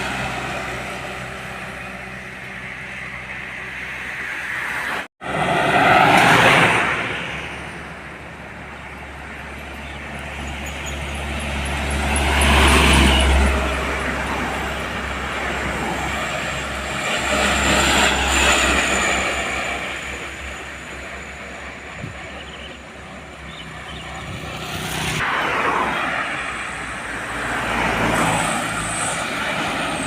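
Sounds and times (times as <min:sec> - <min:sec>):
vehicles passing close by: 0:00.0 - 0:30.0.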